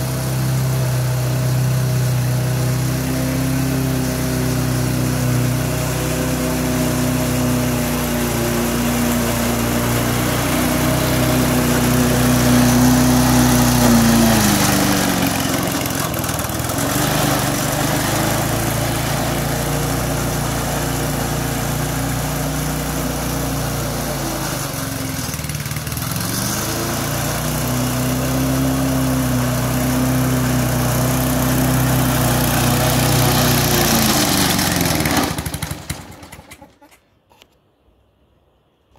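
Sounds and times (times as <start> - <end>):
lawn mower engine running: 0.0 - 36.9.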